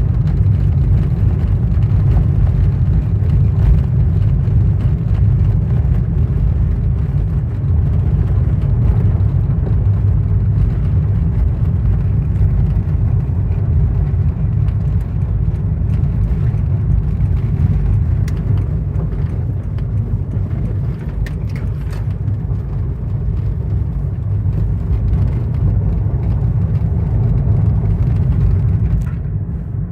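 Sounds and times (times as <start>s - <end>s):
motor vehicle engine rumble: 0.0s - 29.9s.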